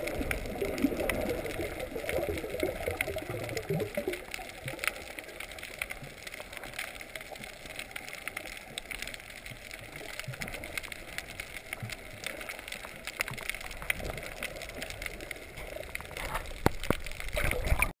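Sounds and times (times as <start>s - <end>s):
sharp clicks and crackles: 0.0s - 17.9s.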